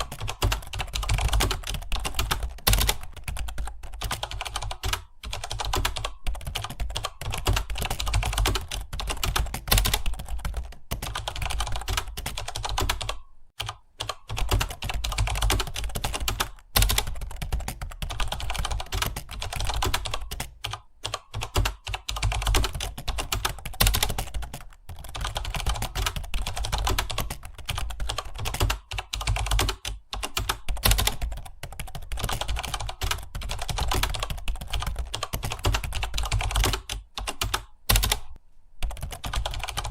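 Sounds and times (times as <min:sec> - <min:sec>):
typing on computer keyboard: 0:00.0 - 0:39.9.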